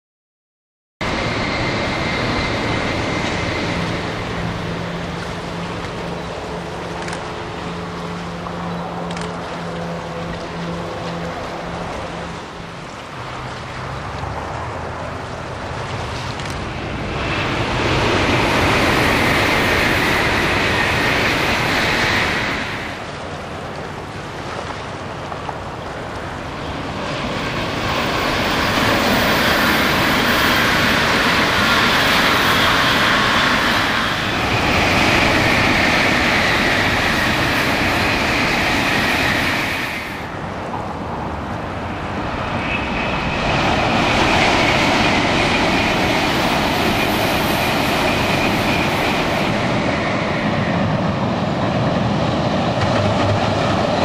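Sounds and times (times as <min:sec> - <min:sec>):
bullet train rushing past: 0:01.0 - 0:24.4, 0:25.2 - 0:54.0
freight train wheels rumbling: 0:01.0 - 0:54.0.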